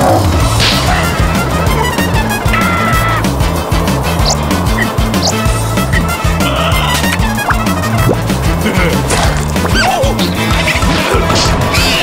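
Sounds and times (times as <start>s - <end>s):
cartoon music with bass line: 0.0s - 12.0s.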